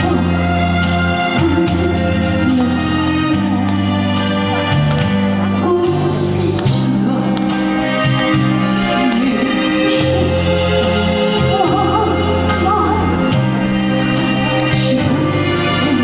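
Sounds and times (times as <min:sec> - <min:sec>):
woman singing: 0:00.0 - 0:04.8, 0:05.4 - 0:16.0.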